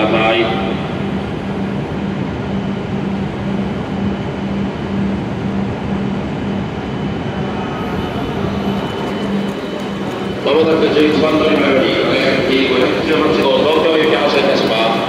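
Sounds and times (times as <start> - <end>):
pulsing low hum: 0.0 - 15.0
train equipment mechanical noise: 0.0 - 15.0.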